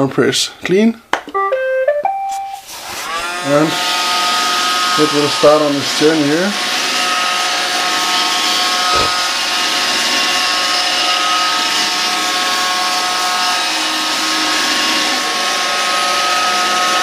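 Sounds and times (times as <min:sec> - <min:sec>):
robot vacuum whining: 0:02.6 - 0:17.0.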